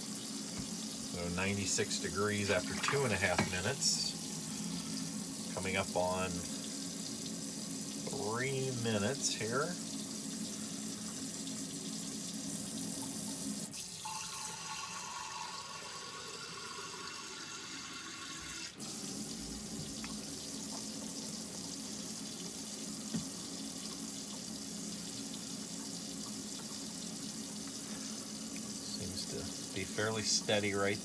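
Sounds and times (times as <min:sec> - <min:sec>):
water running into sink: 0:00.0 - 0:31.0.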